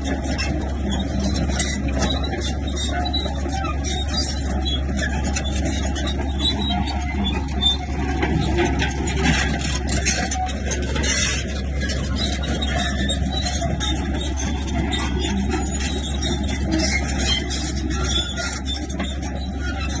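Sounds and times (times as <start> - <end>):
diesel engine rumbling: 0.0 - 20.0
tracks and blade scraping stone: 1.2 - 20.0.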